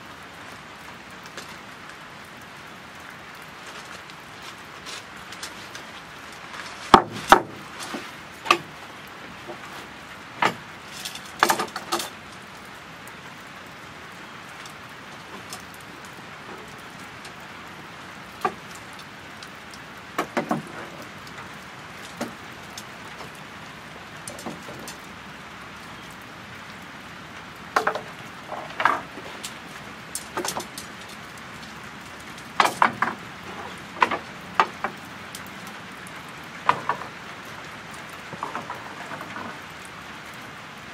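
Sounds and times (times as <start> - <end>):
light rain hissing: 0.0 - 40.9
tent poles clacking together: 0.8 - 12.7, 14.4 - 26.2, 27.4 - 40.3.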